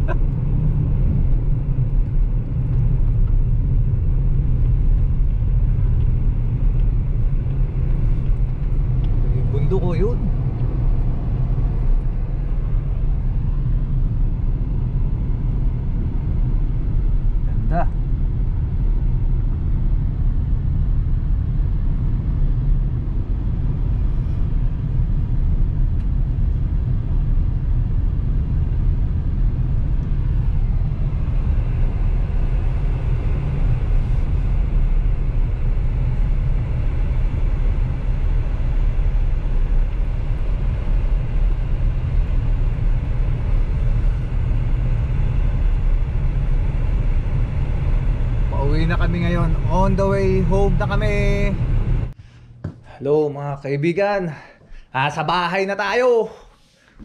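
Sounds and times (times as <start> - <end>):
car engine and road noise: 0.0 - 53.6.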